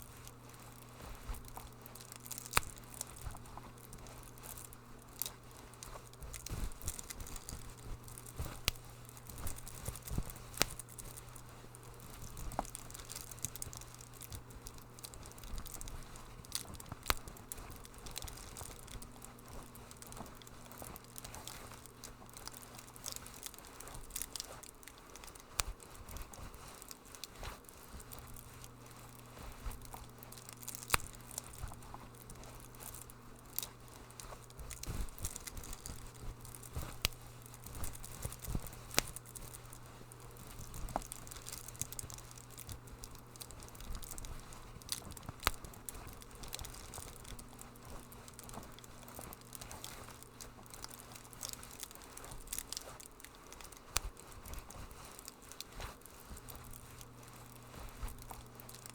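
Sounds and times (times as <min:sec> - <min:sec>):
soft hiss of fire: 0:00.0 - 0:58.9
steady low hum: 0:00.0 - 0:58.9
wood fire pops and snaps: 0:00.2 - 0:58.9.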